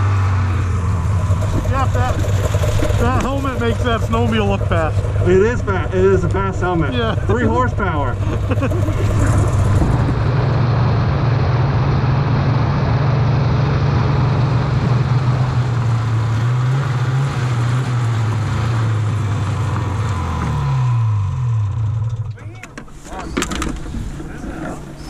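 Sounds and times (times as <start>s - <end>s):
snowmobile engine droning: 0.0s - 25.0s.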